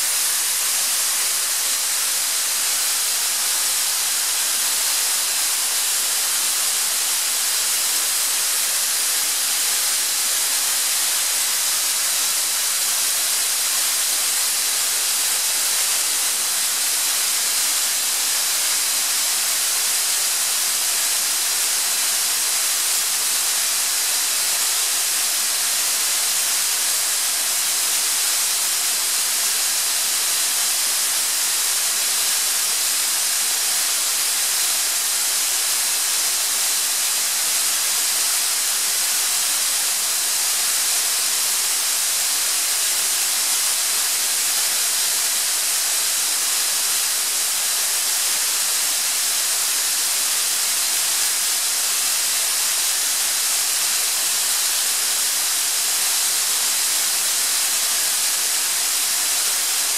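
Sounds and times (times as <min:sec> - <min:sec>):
air compressor hissing: 0:00.0 - 0:59.9.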